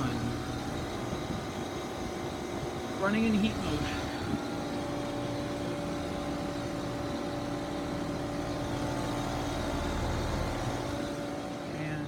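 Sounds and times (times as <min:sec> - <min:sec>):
compressor and fan tones: 0:00.0 - 0:12.0
heat pump humming: 0:00.0 - 0:12.0.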